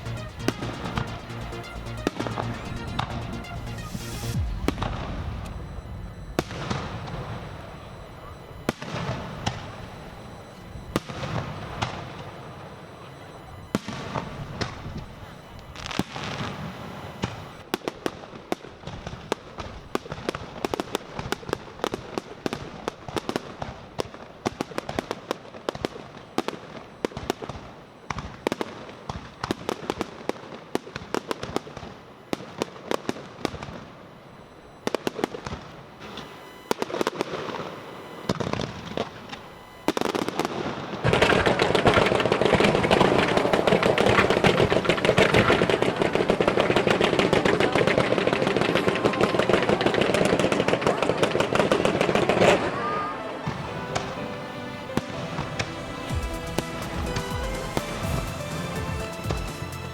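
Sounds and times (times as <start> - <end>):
fireworks cracking and popping: 0.0 - 59.9.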